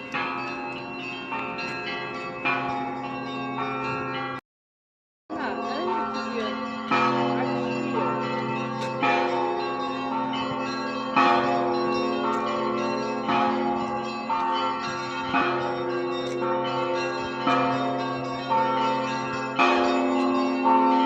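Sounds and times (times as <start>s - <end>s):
church bells ringing: 0.0s - 4.4s, 5.3s - 21.0s.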